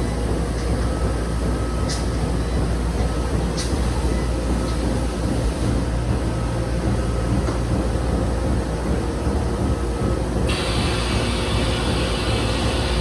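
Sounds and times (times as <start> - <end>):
industrial machinery humming: 0.0 - 13.0.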